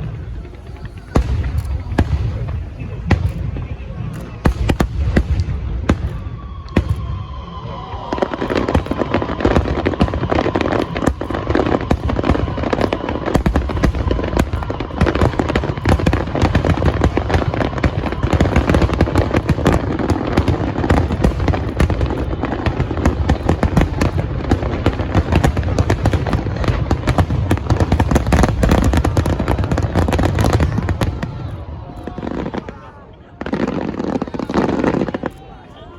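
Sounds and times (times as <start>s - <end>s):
falling firework whistle: 0.0s - 35.7s
fireworks bangs and crackling: 0.0s - 35.9s.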